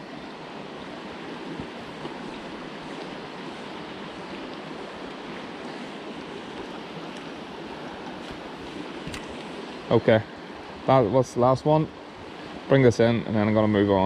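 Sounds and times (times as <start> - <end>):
river flowing: 0.0 - 14.0.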